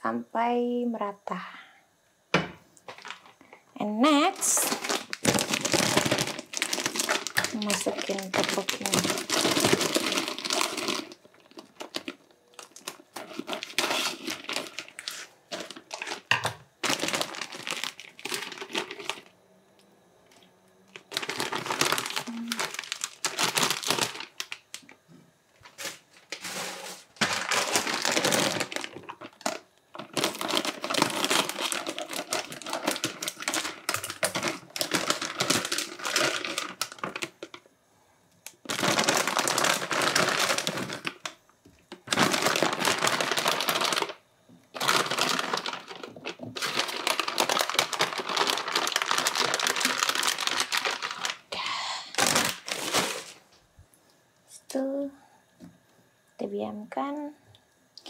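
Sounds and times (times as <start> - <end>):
plastic packaging crinkling: 2.8 - 19.4, 20.3 - 37.6, 38.4 - 53.5.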